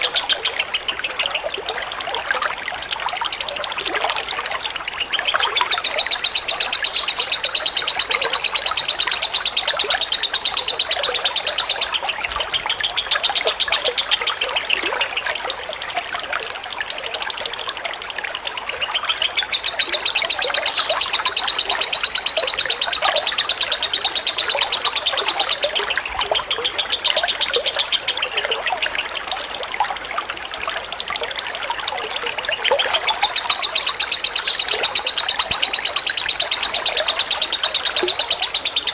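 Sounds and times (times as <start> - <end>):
lovebird chattering trill: 0.0 - 38.9
trickling water: 0.0 - 38.9.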